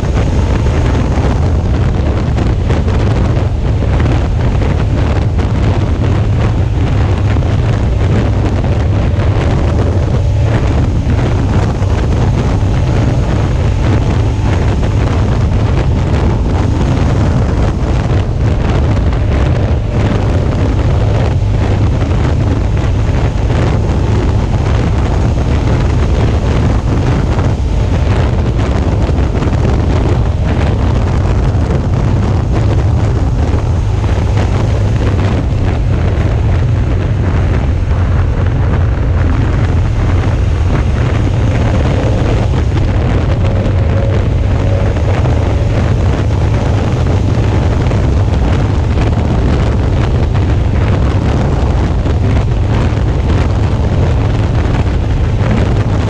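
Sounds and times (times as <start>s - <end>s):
motorcycle engine: 0.0s - 56.0s
road noise: 0.0s - 56.0s
wind buffeting microphone: 0.0s - 56.0s.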